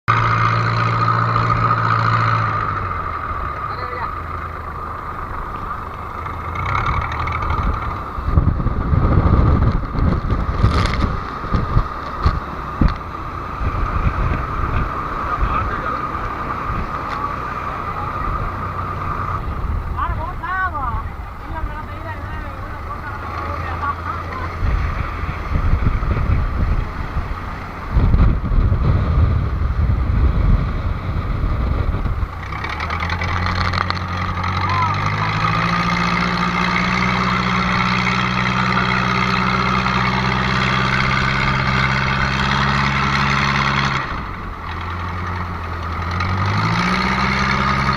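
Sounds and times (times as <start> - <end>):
boat engine running: 0.1 - 47.9
low buffeting and thumps: 0.1 - 47.9.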